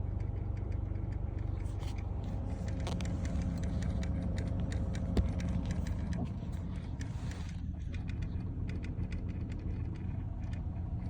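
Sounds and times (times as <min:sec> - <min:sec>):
rapid irregular clicking: 0:00.0 - 0:11.0
steady low hum: 0:00.0 - 0:11.0.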